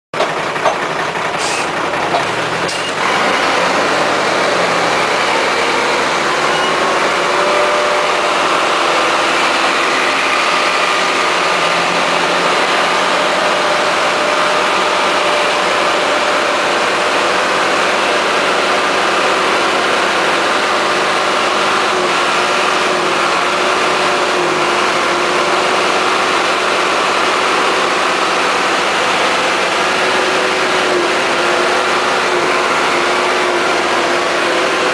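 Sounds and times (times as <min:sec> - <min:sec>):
tractor engine running under load: 0:00.1 - 0:34.9.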